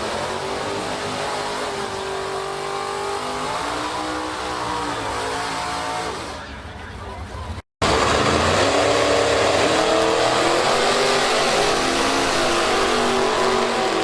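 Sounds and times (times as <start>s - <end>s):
race car engine revving: 0.0s - 6.6s, 7.8s - 14.0s.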